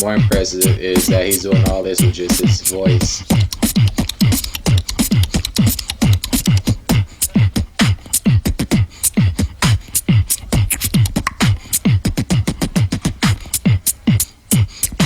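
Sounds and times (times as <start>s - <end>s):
vocal beatboxing: 0.0s - 15.0s.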